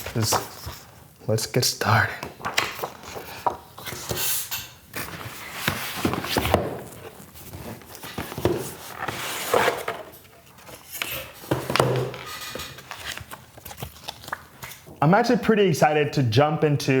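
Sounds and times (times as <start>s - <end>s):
cardboard and plastic rustling: 0.0s - 1.1s, 1.9s - 15.0s.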